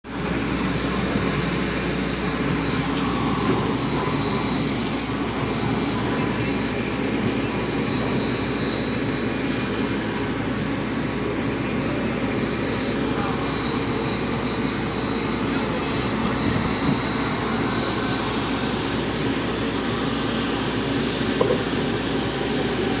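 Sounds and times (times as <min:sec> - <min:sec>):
faint murmur of people: 0:00.1 - 0:23.0.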